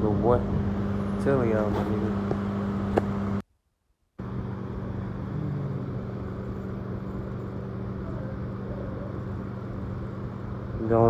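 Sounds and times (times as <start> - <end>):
low mechanical hum: 0.0 - 3.4, 4.2 - 11.0.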